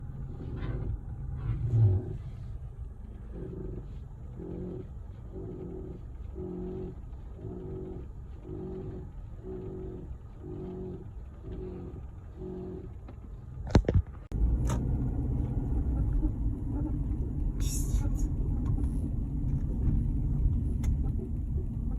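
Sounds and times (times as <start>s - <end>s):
low rumble: 0.0s - 21.9s.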